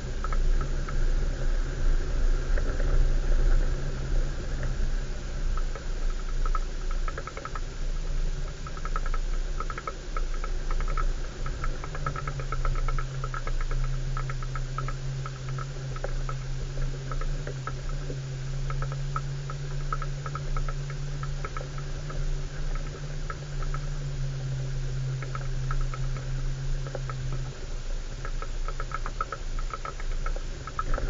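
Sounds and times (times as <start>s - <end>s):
vehicle engine hum: 0.0s - 31.0s
light rattling clicks: 5.5s - 31.0s.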